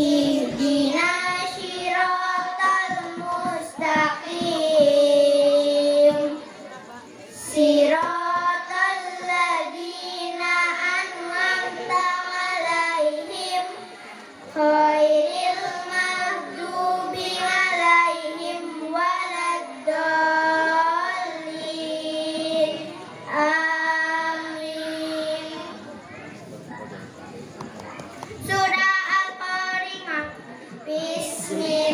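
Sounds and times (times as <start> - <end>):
girls chanting melodic recitation: 0.0 - 27.0, 28.3 - 31.9.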